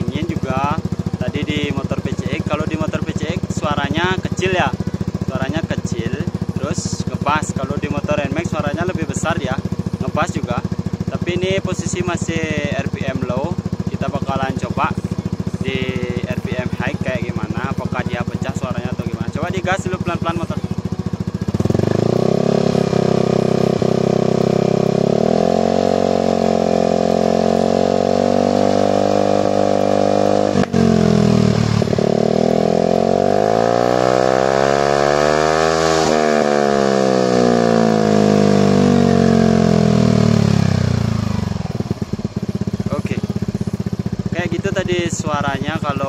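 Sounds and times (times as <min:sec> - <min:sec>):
scooter engine revving: 0:00.0 - 0:46.0.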